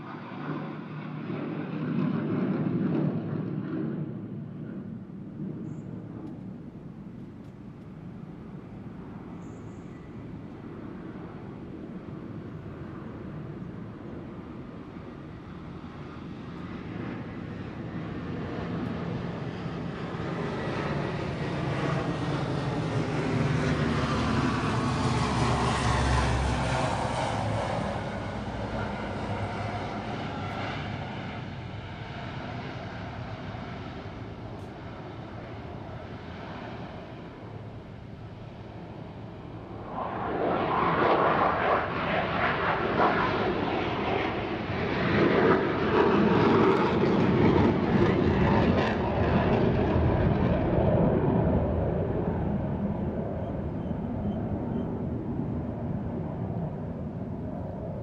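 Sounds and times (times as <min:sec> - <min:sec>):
military aircraft flying past: 0:00.0 - 0:58.0.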